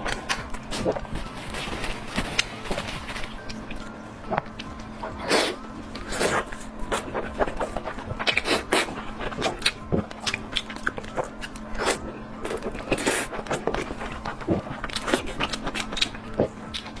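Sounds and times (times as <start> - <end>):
crunching chewing: 0.0 - 17.0.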